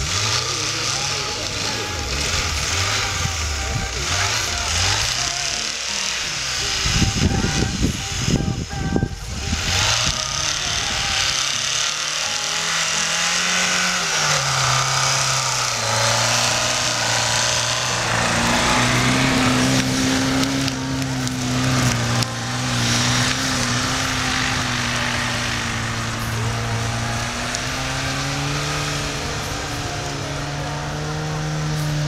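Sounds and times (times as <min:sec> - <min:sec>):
car engine revving high: 0:00.0 - 0:32.0
wheels spinning in snow: 0:00.0 - 0:32.0.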